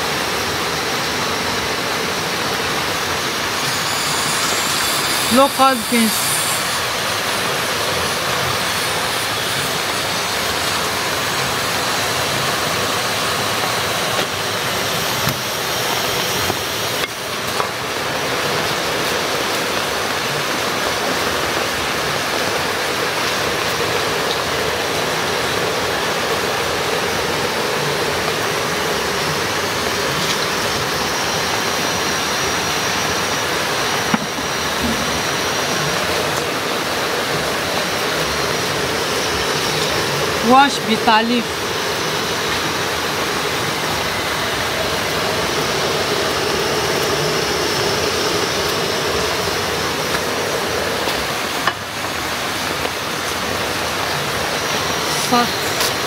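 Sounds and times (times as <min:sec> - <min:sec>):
gas burner hissing: 0:00.0 - 0:56.0.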